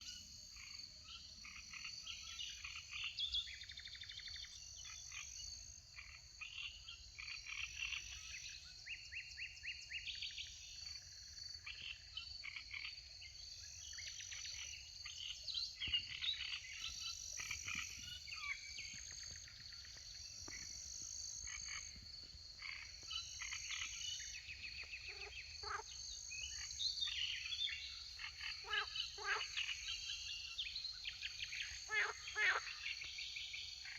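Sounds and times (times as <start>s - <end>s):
frogs croaking and trilling: 0.0s - 33.9s.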